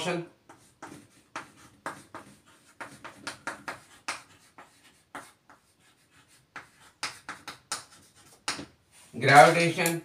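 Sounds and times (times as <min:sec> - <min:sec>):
chalk scratching on chalkboard: 0:00.0 - 0:09.7.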